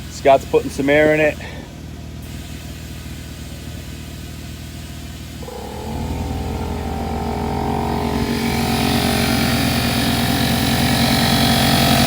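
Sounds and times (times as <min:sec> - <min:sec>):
air compressor inflating tire: 0:00.0 - 0:12.0.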